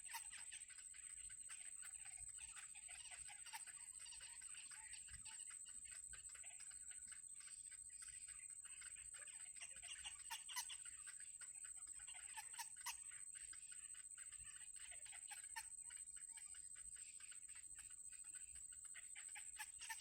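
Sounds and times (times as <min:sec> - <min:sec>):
baby birds cheeping: 0:00.0 - 0:20.0.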